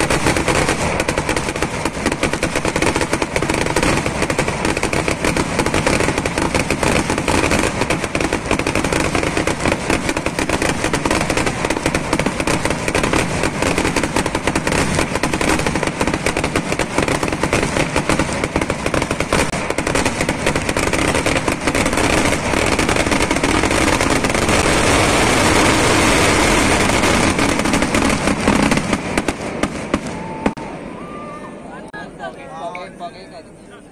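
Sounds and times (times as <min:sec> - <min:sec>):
fireworks barrage: 0:00.0 - 0:33.9.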